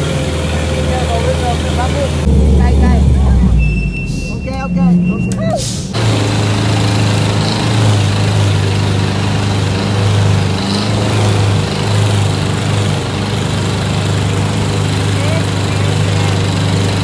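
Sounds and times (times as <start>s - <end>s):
tractor engine humming: 0.0s - 17.0s.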